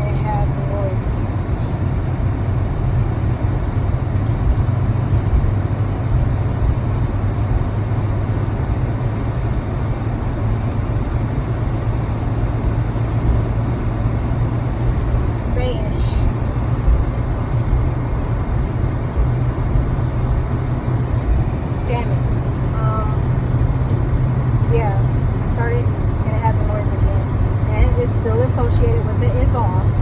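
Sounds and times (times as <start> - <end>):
car engine idling: 0.0 - 30.0
exhaust rattle: 0.0 - 30.0.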